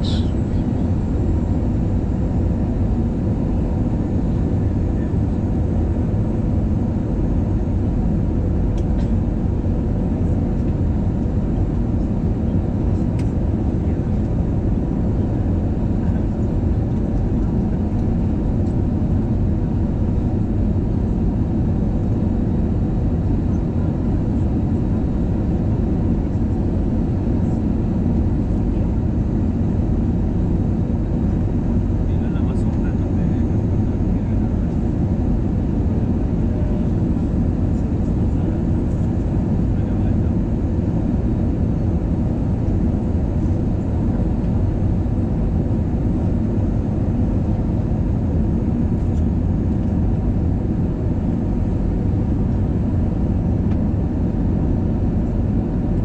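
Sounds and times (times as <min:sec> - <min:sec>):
jet cabin engine drone: 0:00.0 - 0:56.0.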